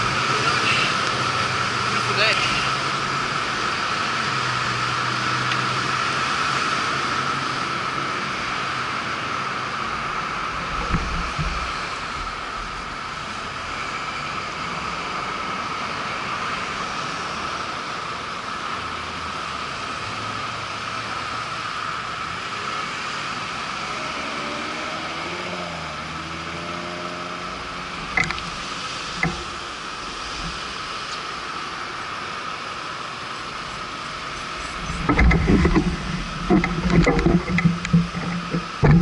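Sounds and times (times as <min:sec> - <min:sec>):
road and wind noise: 0:00.0 - 0:39.0.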